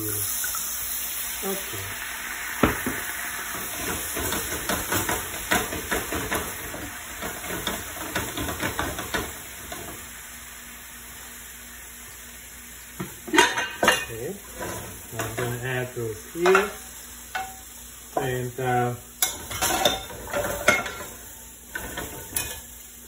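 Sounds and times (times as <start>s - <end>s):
shrimp sizzling in frying pan: 0.0s - 23.0s
wine boiling off in hiss: 0.0s - 23.0s.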